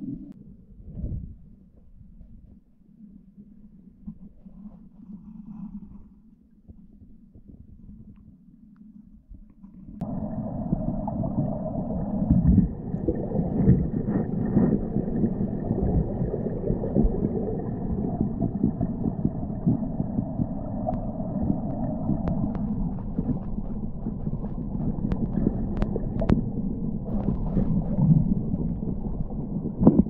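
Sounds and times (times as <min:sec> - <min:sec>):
muffled underwater river rushing: 0:00.0 - 0:30.0.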